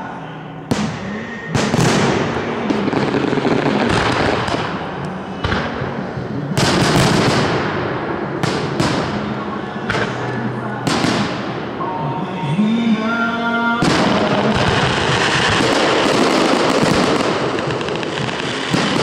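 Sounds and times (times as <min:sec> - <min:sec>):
distant fireworks bangs: 0:00.7 - 0:11.9, 0:13.8 - 0:19.0.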